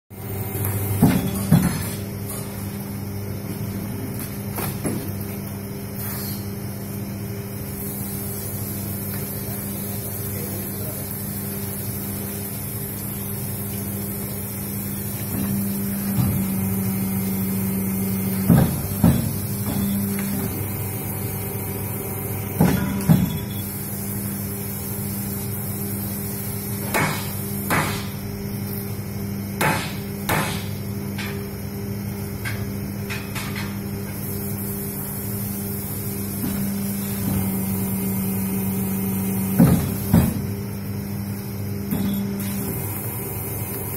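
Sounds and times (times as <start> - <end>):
machine motor hum: 0.1 - 43.9.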